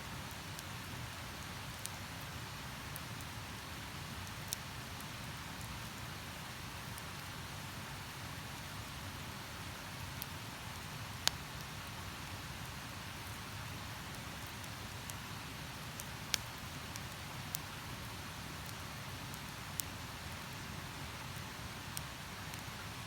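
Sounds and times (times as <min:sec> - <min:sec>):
campfire crackling: 0:01.4 - 0:07.8, 0:08.4 - 0:23.0.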